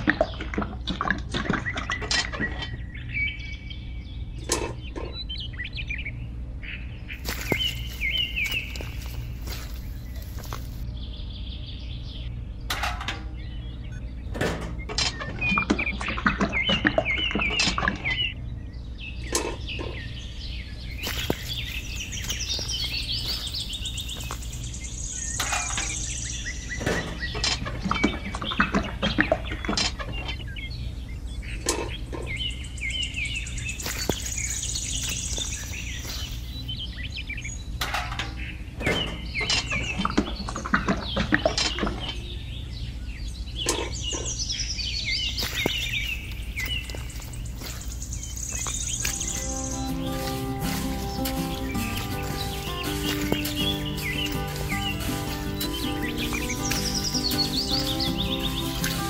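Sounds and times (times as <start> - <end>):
birdsong chirps and trills: 0.0 - 59.0.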